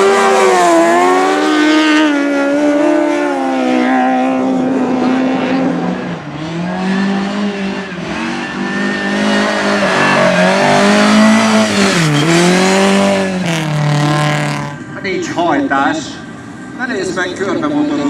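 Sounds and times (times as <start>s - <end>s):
motorcycles racing at high revs: 0.0s - 14.8s.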